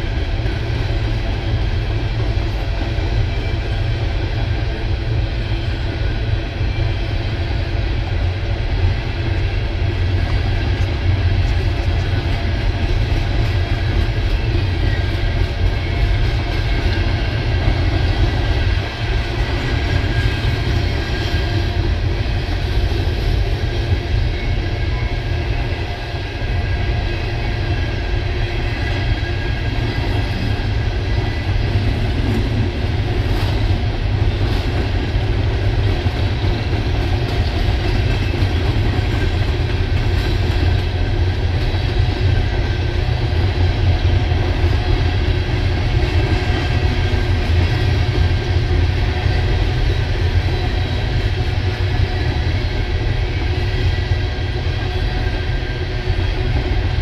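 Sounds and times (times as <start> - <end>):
train cars rumbling and rattling: 0.0 - 57.0.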